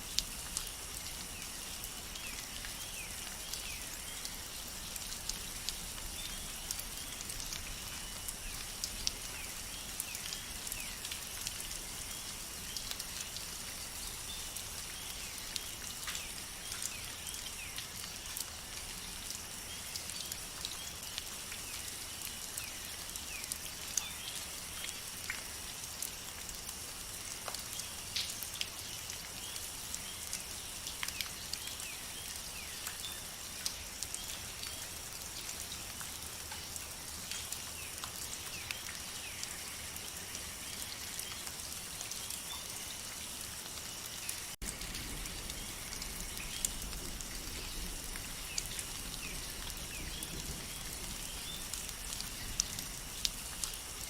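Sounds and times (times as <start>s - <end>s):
raindrops dripping: 0.0s - 54.0s.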